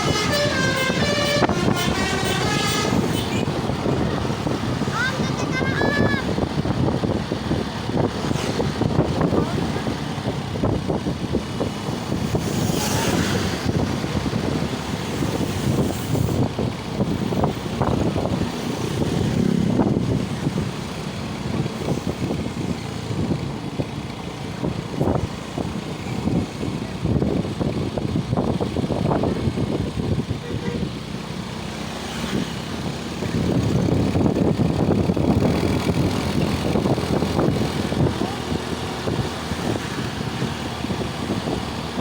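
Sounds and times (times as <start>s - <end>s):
vehicles rumbling on road: 0.0s - 42.0s.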